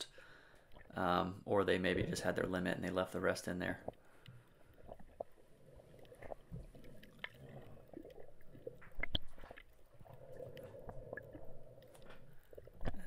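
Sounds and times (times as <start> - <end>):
underwater clicks and crackles: 0.6 - 1.1, 1.7 - 13.0.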